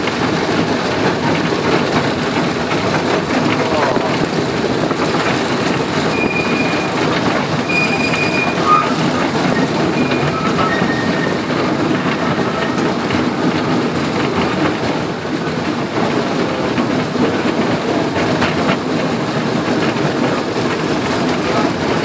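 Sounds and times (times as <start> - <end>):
wheels clattering on rails: 0.0 - 22.0.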